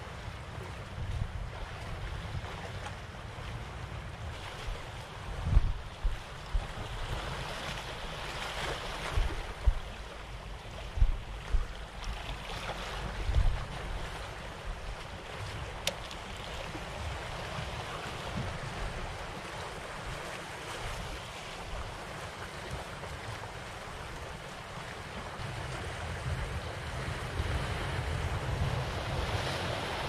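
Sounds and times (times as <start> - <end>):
waves splashing on concrete: 0.0 - 30.0
wind buffeting microphone: 0.1 - 3.5, 4.1 - 30.0.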